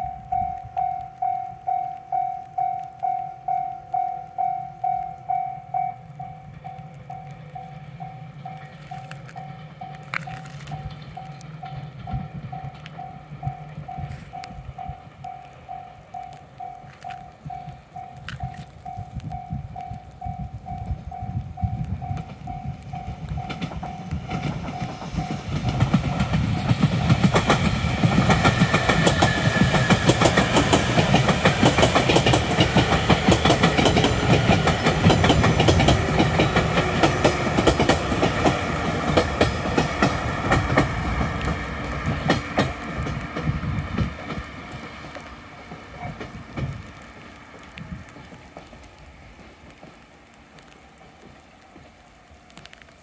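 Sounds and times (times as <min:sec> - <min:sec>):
train wheels clattering over rails: 0:06.4 - 0:19.6, 0:20.4 - 0:52.0.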